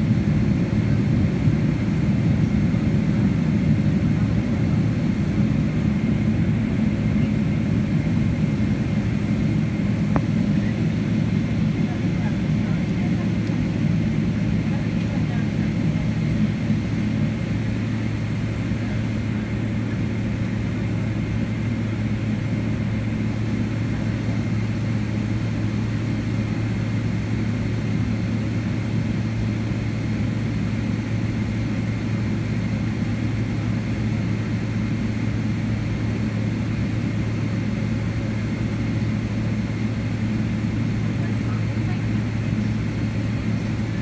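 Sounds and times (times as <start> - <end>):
jet engines idling in cabin: 0.0 - 44.0.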